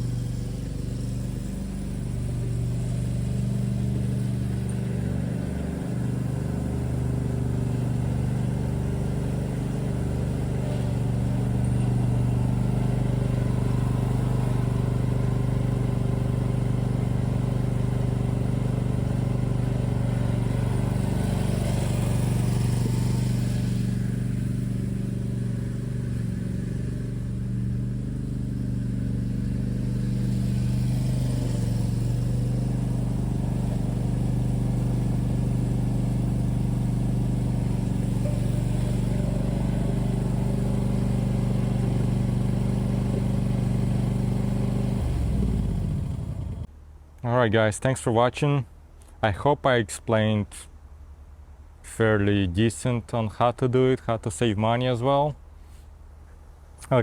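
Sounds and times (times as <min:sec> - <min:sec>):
mower engine running: 0:00.0 - 0:46.7.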